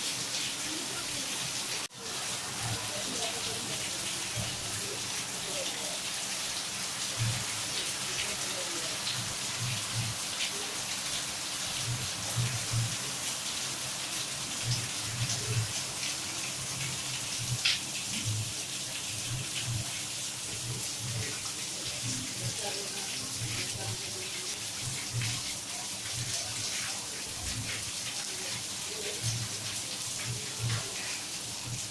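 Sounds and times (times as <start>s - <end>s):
rain hissing: 0.0s - 31.9s
raindrops ticking on a surface: 0.0s - 31.9s.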